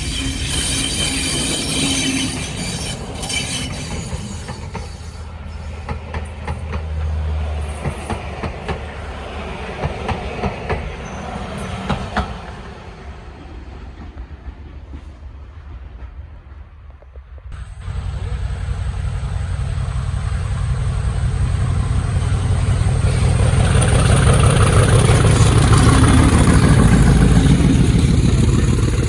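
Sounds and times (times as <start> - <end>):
diesel train passing: 0.0 - 29.0.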